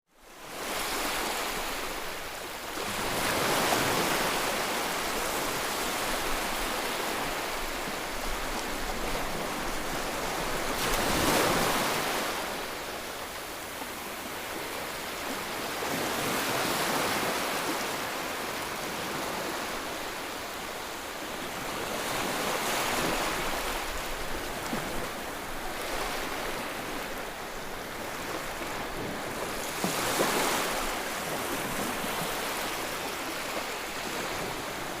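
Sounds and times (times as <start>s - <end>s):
ocean waves washing onto shore: 0.2s - 35.0s.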